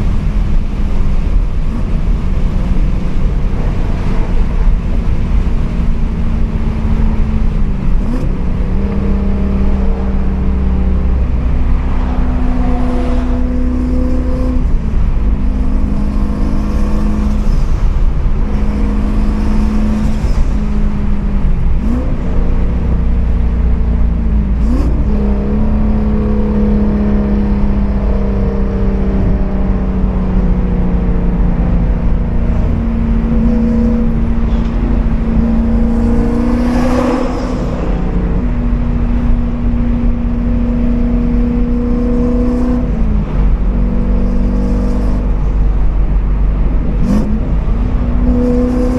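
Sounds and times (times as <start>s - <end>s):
car engine cruising with exhaust drone: 0.0s - 48.9s.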